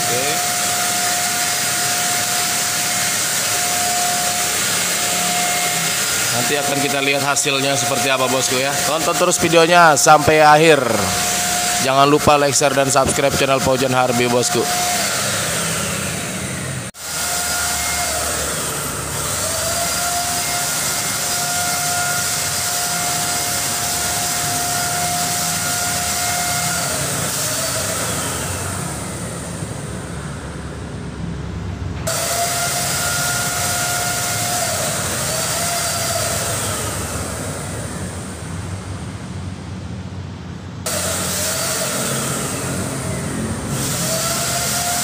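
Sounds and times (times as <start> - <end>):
paint spray gun motor whine: 0.0 - 30.6, 32.0 - 38.6, 40.8 - 45.0.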